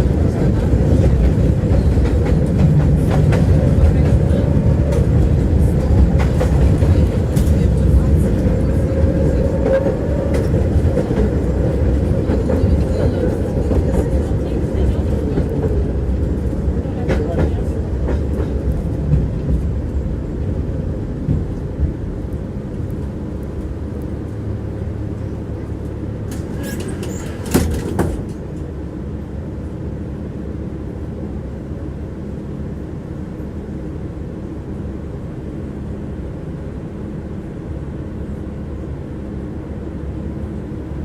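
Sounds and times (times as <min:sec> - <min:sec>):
tram wheels rumbling on rails: 0:00.0 - 0:41.0.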